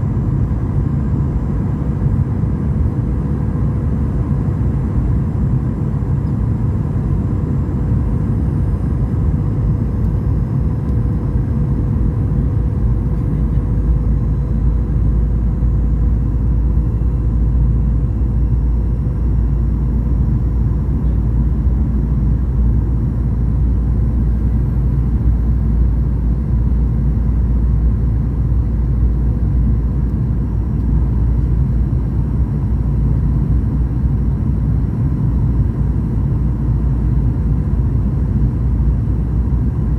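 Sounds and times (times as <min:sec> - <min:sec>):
aircraft engine rumble: 0:00.0 - 0:39.9.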